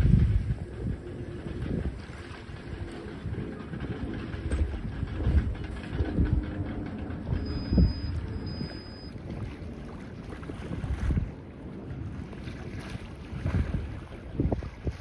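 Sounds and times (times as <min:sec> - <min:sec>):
choppy water: 0:00.0 - 0:15.0
wind buffeting microphone: 0:00.0 - 0:15.0.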